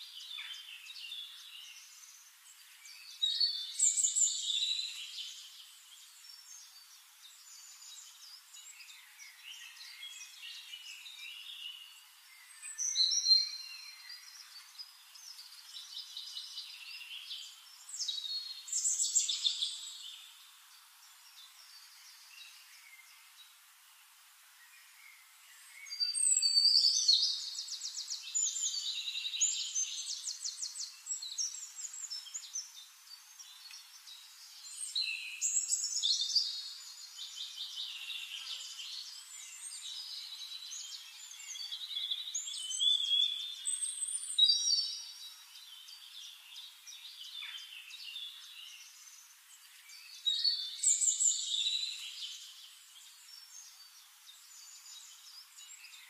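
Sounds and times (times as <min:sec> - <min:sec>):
birds chirping and trilling: 0:00.0 - 0:23.7, 0:24.6 - 0:56.0.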